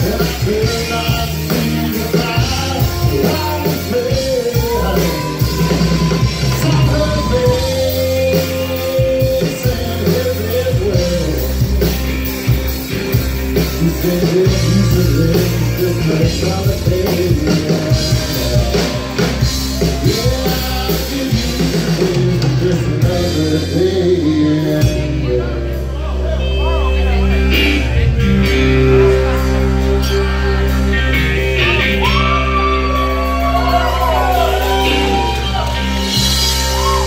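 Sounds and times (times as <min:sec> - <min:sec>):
electric guitar lead bending pitch: 0:00.0 - 0:37.0
live country-rock band: 0:00.0 - 0:37.0.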